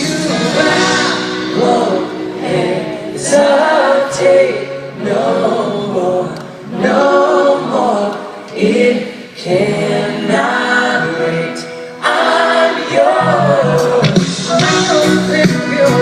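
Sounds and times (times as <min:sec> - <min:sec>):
voices singing pop music: 0:00.0 - 0:16.0.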